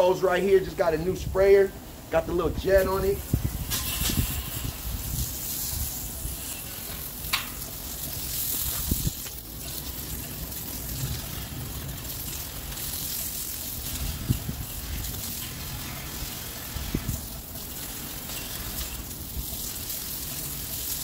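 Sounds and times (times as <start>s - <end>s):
hose spraying water on concrete: 0.0s - 21.0s.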